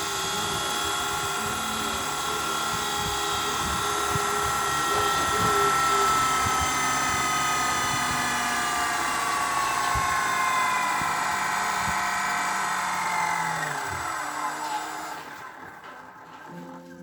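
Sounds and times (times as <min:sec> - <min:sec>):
rc helicopter motor spinning down: 0:00.0 - 0:15.6.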